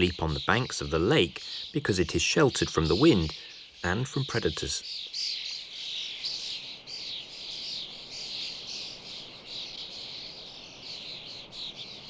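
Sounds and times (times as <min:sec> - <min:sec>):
flock of starlings chattering: 0:00.0 - 0:12.0.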